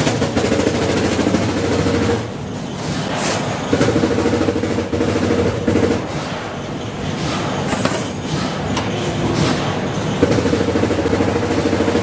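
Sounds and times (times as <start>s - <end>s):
factory machinery rattling: 0.0s - 12.0s.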